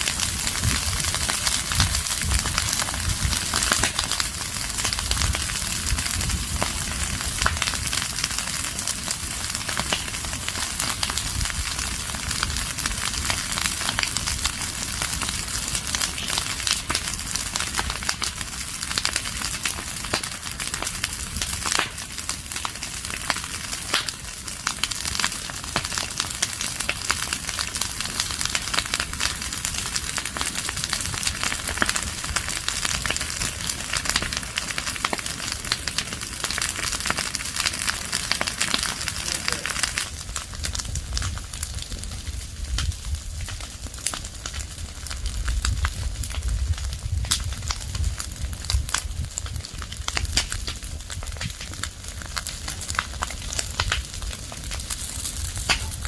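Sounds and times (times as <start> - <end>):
fire crackling: 0.0 - 56.0
low rumble of fire: 0.0 - 56.0.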